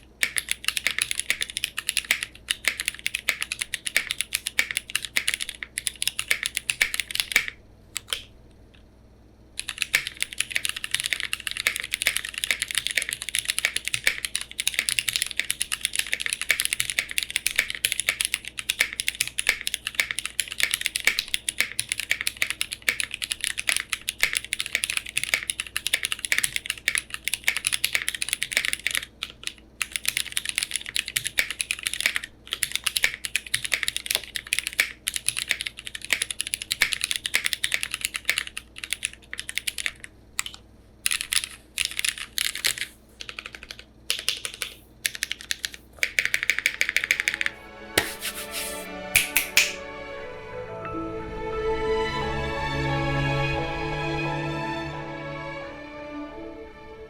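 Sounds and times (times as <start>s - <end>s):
mechanical keyboard typing: 0.0s - 8.3s, 9.6s - 49.8s.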